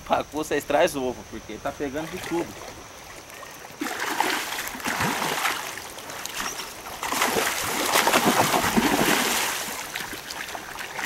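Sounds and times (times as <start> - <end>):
fish thrashing water splashing: 2.1 - 11.0.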